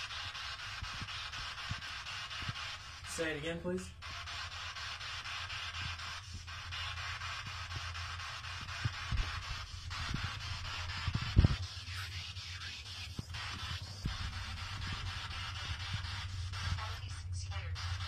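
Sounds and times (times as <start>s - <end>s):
radio static sweeping: 0.0s - 18.0s.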